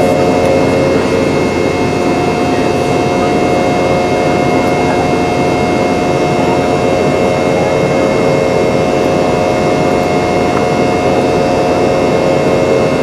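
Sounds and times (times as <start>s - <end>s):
jet engine whine in cabin: 0.0s - 13.0s.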